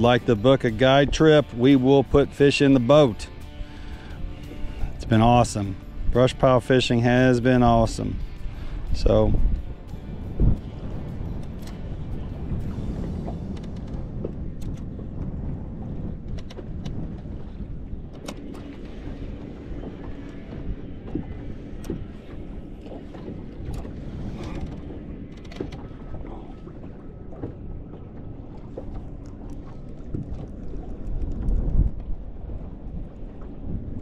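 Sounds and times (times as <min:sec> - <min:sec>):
water lapping against hull: 0:00.0 - 0:34.0
wind buffeting microphone: 0:00.0 - 0:34.0.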